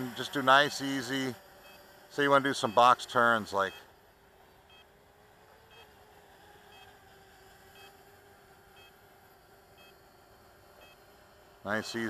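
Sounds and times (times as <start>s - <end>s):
distant quadcopter motors humming: 0.0s - 12.0s.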